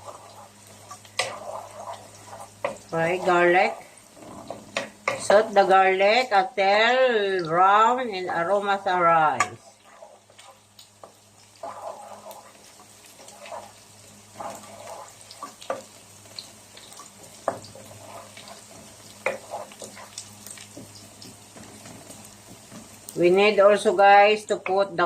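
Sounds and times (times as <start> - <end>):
garlic sizzling in oil: 0.0 - 25.0.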